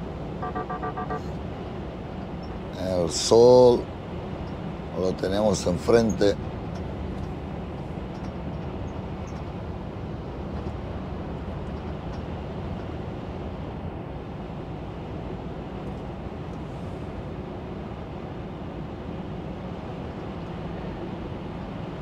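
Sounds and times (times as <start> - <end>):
lorry engine drone: 0.0 - 22.0
tyres on road: 0.0 - 22.0.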